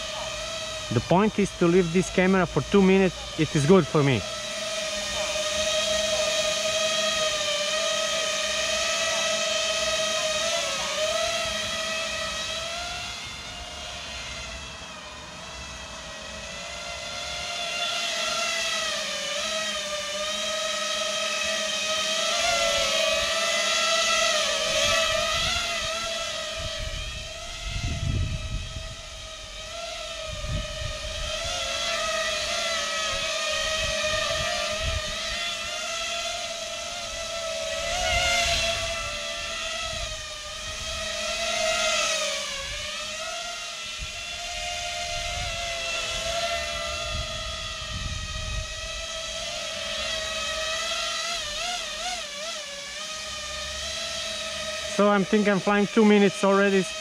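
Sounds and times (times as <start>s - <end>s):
drone propeller whine: 0.0s - 57.0s.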